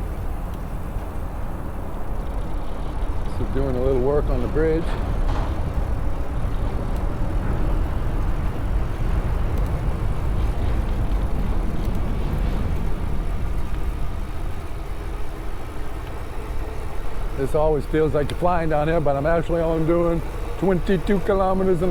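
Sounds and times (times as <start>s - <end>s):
wind rush while riding: 0.0s - 21.9s.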